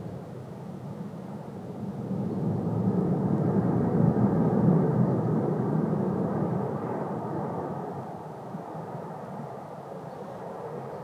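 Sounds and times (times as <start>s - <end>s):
fighter jet engine roar: 0.0s - 11.0s.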